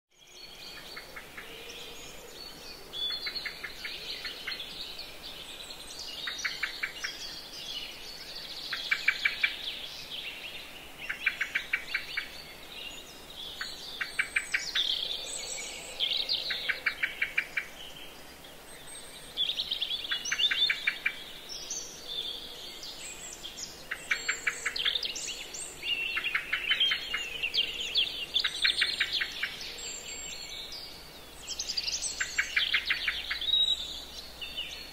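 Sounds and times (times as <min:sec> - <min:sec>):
birds warbling song: 0:00.1 - 0:34.9.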